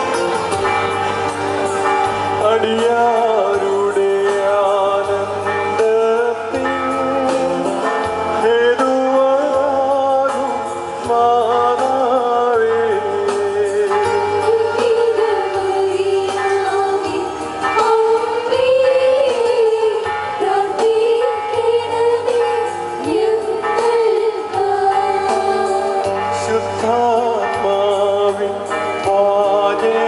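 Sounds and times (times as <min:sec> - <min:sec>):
person singing with instruments: 0:00.0 - 0:30.0.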